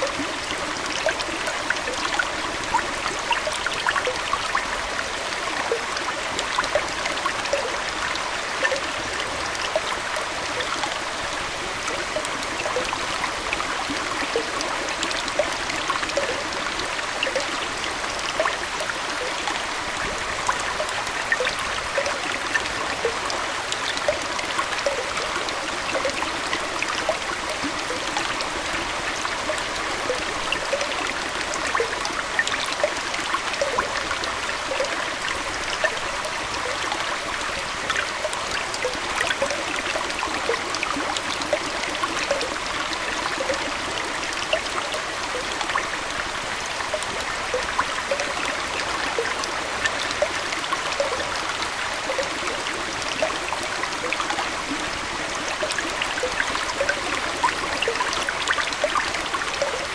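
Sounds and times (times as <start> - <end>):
aquarium water trickling: 0.0 - 59.9
small water plops: 11.8 - 59.9.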